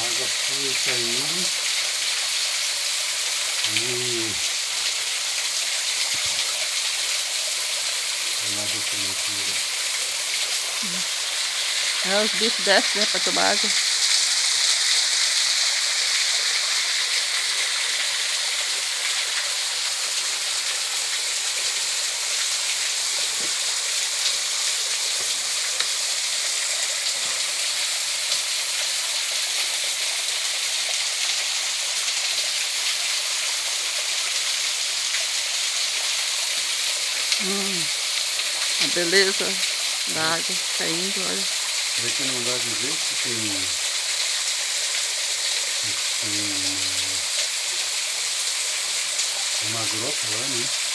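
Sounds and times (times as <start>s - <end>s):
waterfall rushing over rocks: 0.0s - 50.9s.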